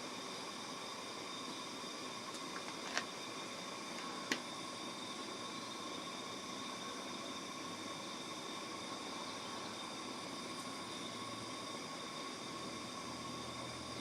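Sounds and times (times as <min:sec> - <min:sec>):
background hiss: 0:00.0 - 0:14.0
faint high whine: 0:00.0 - 0:14.0.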